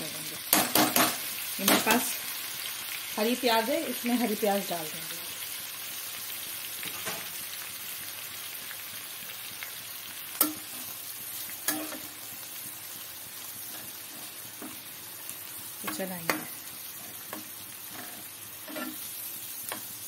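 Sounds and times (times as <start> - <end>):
onions sizzling in frying pan: 0.0 - 20.0.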